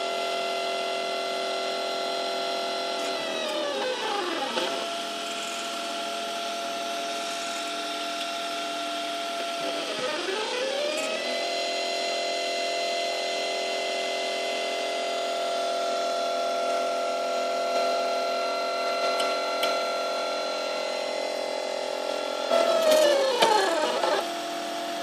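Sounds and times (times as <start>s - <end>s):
stepper motors whining: 1.4s - 15.4s, 16.2s - 24.6s.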